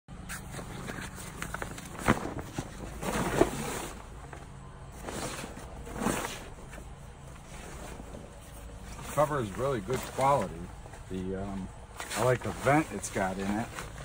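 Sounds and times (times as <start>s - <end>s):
fabric cover rustling: 0.3s - 11.0s, 11.9s - 14.0s.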